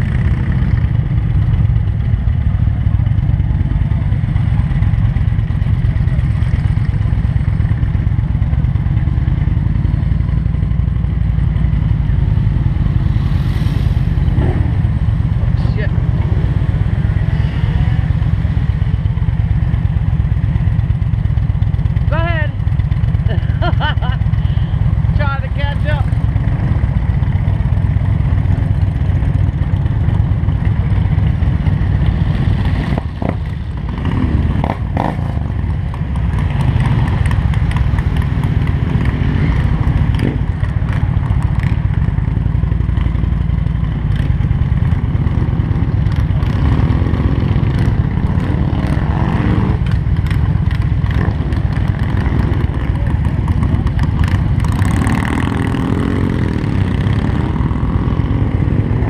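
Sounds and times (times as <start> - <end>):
motorcycle engines rumbling: 0.0 - 59.0.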